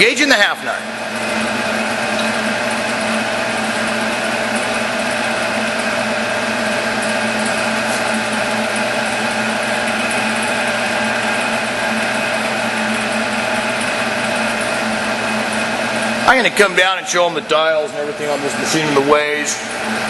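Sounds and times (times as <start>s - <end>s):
lathe whining: 0.0s - 20.0s.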